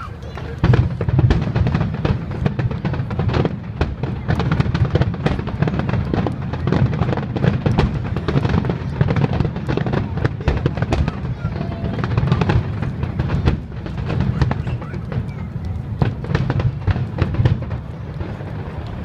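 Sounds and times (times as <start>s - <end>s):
firework bursts: 0.0s - 19.0s.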